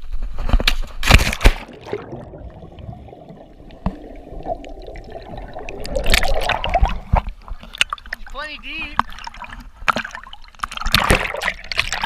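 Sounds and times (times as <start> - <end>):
water splashing: 1.2 - 12.0
muffled underwater river rushing: 1.5 - 12.0.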